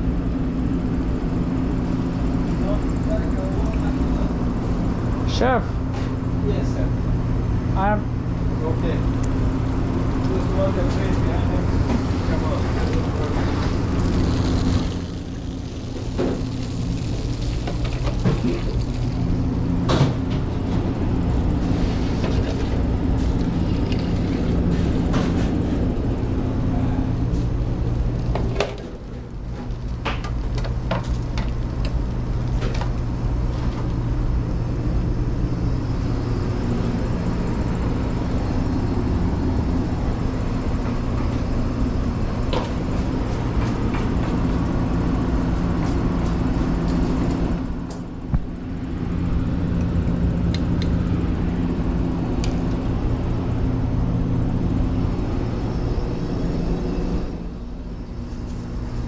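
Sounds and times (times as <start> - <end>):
kitchen equipment humming: 0.0 - 59.0.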